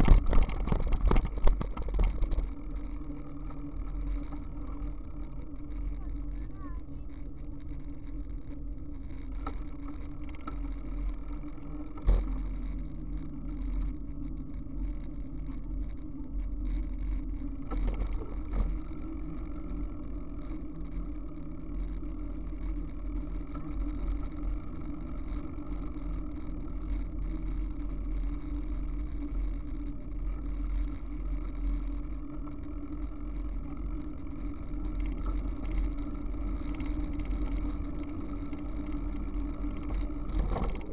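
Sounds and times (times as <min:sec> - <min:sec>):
low hum: 0:00.0 - 0:40.9
wind and tyre rumble: 0:00.0 - 0:40.9.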